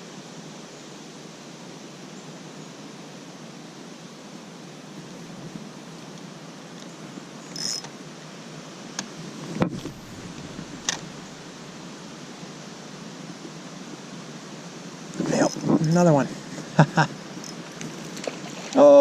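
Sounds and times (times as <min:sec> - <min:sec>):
creek water flowing: 0:02.9 - 0:19.0.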